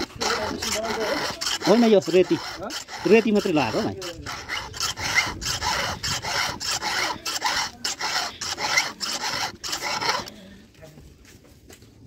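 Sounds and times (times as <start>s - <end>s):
file rasping on saw chain: 0.0s - 10.5s.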